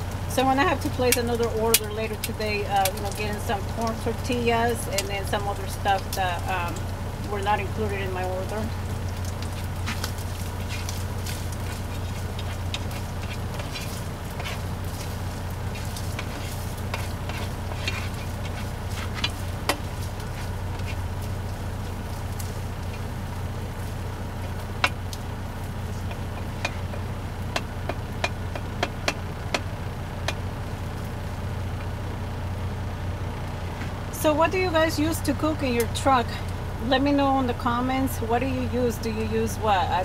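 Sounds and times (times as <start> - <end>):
utensil stirring meat: 0.0 - 32.4
meat sizzling in skillet: 0.0 - 33.1
low hum: 0.0 - 40.0.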